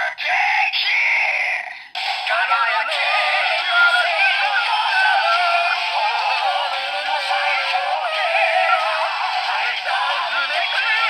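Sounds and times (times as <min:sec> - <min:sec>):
toy speaker playing sung electronic song: 0:01.9 - 0:11.0.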